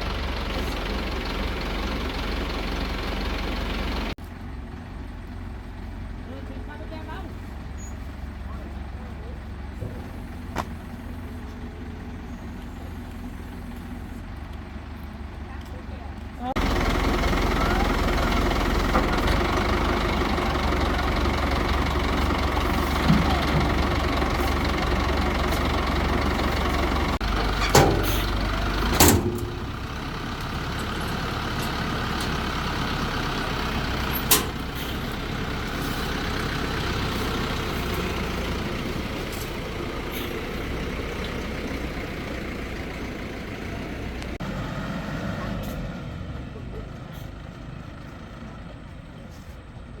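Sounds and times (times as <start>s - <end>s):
crane engine running: 0.0s - 50.0s.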